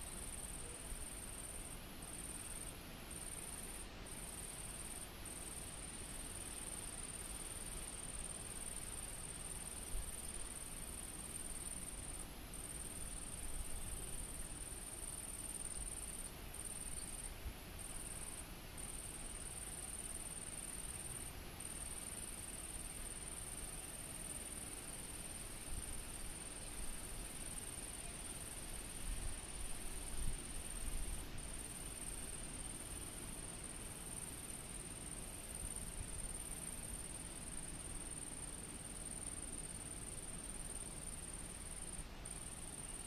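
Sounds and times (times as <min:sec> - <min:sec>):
high-pitched insect call: 0:00.0 - 0:43.0.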